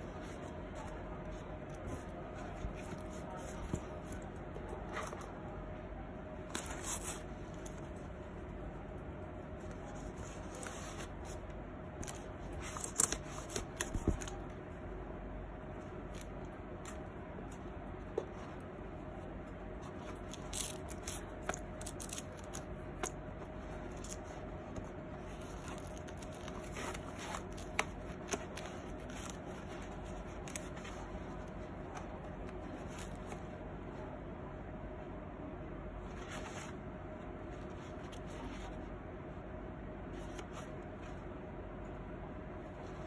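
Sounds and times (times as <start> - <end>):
faint hum: 0.0 - 43.0.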